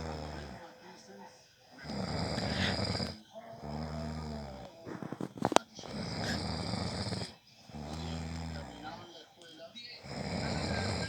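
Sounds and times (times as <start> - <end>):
man snoring: 0.0 - 0.9, 1.6 - 9.3, 10.0 - 11.0.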